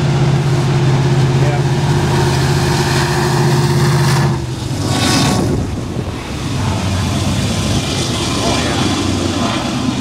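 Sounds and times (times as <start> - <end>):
diesel locomotive engine drone: 0.0 - 10.0
whoosh of passing train: 0.0 - 10.0.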